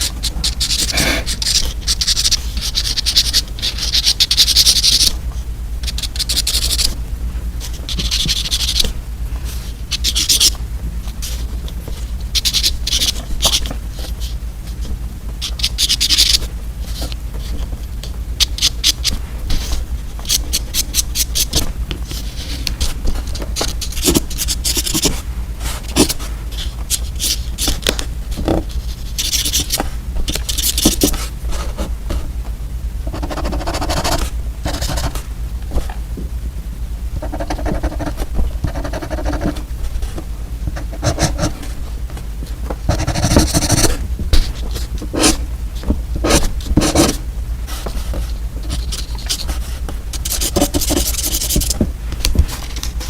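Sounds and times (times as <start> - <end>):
paper scraping and scratching: 0.0 - 5.2, 5.8 - 7.0, 7.6 - 14.8, 18.4 - 32.3, 33.1 - 36.0, 37.2 - 42.0, 42.7 - 53.0.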